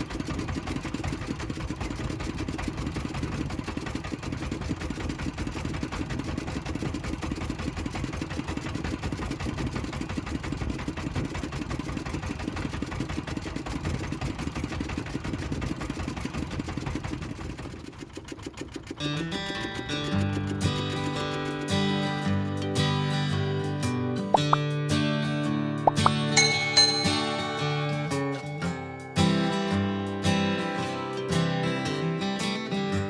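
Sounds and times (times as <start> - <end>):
boat engine running: 0.0 - 22.6, 25.9 - 30.8.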